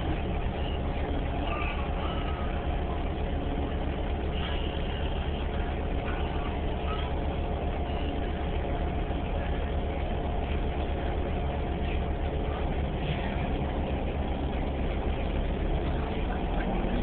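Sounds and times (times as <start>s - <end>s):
bus interior low rumble: 0.0s - 17.0s
higher hum: 0.0s - 17.0s.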